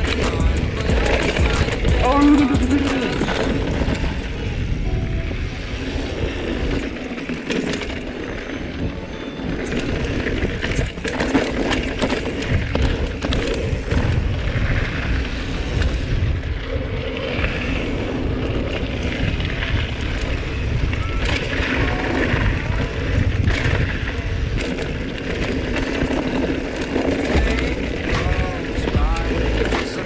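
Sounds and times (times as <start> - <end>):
bike rattling over rough ground: 0.0 - 30.0
wind buffeting microphone: 0.0 - 30.0
bike tyres crunching on dirt: 5.7 - 30.0.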